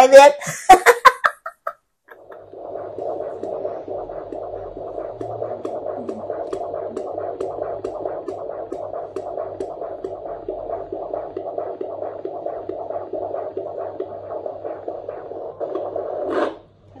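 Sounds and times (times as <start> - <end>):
fetal heartbeat on doppler monitor: 2.2 - 16.7.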